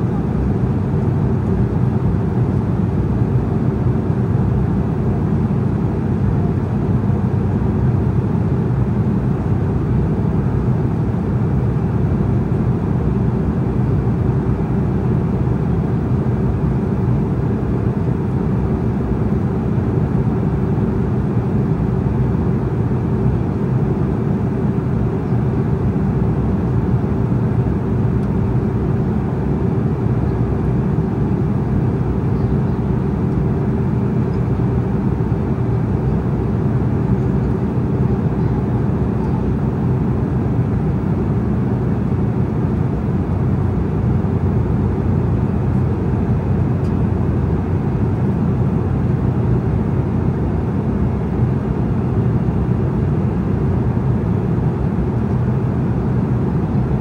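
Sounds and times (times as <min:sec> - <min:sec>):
airflow over fuselage: 0:00.0 - 0:57.0
airliner cabin engine rumble: 0:00.0 - 0:57.0
faint steady hum: 0:00.0 - 0:57.0.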